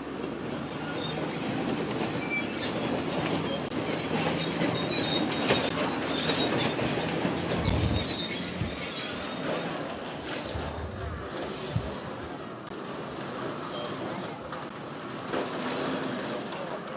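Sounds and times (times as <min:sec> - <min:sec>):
metal squealing and creaking: 0:00.0 - 0:14.5.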